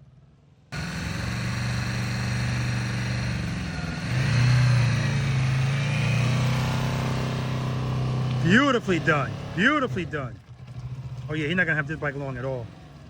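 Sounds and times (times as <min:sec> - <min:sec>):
motorcycle engine running: 0:00.8 - 0:13.0.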